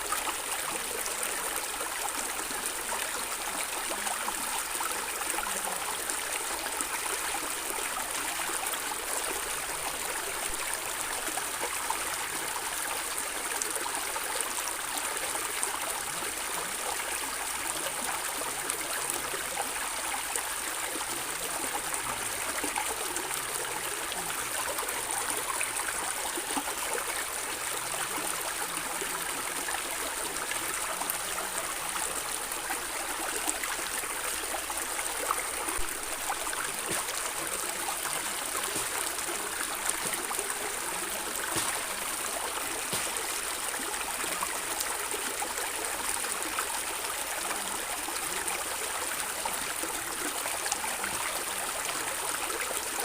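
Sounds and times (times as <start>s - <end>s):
stream water gurgling: 0.0s - 53.0s.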